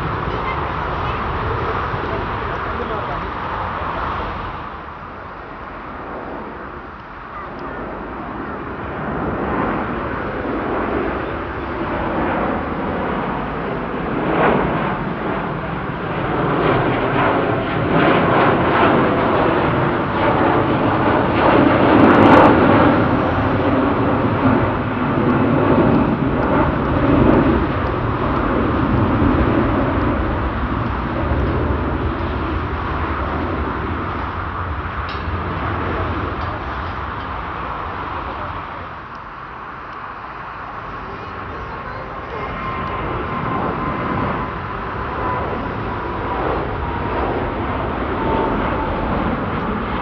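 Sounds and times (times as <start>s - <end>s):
jet engines at high thrust: 0.0s - 50.0s.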